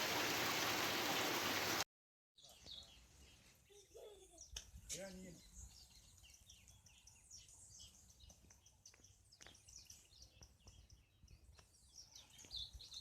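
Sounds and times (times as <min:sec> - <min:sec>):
small birds chirping: 0:02.4 - 0:13.0.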